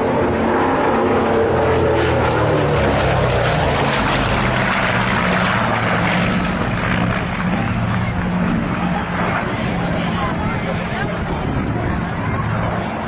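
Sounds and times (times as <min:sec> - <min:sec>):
propeller aircraft engines drone: 0:00.0 - 0:13.0.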